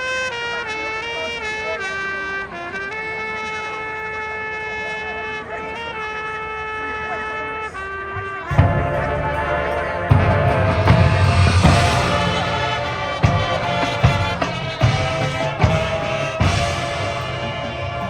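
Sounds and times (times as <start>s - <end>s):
marching band horns holding notes: 0.0s - 18.0s.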